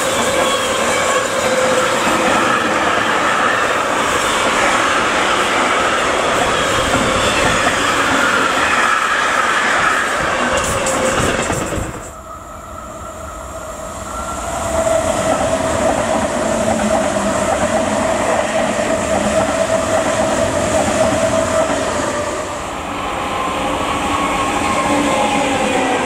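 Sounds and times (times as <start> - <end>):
electric locomotive hauling wagons: 0.0 - 26.0
train passing with whine: 0.0 - 26.0.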